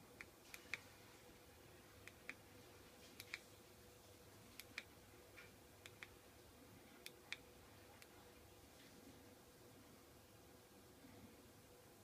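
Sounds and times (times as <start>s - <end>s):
faint steady tone: 0.0s - 12.0s.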